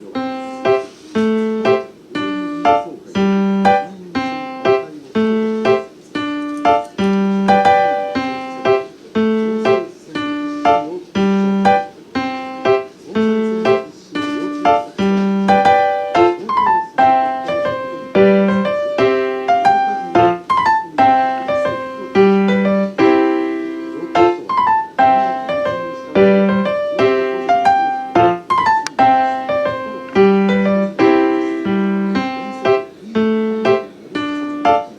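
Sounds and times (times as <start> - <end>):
piano single notes: 0.0 - 34.9.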